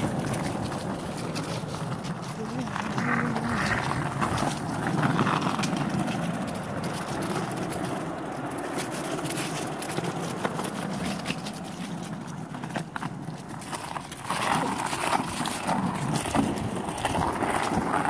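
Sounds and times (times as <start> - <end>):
skateboard wheels rolling on pavement: 0.0 - 18.0.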